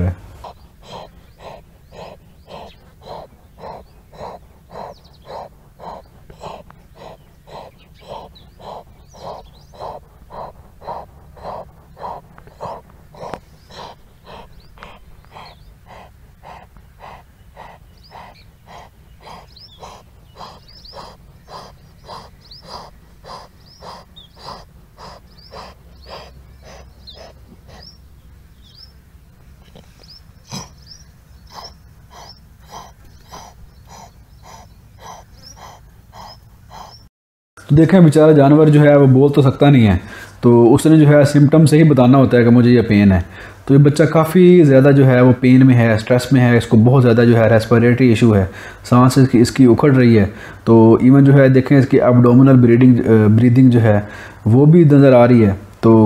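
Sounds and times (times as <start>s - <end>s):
calf breathing fast and laboured: 0.0s - 37.1s, 38.2s - 56.0s.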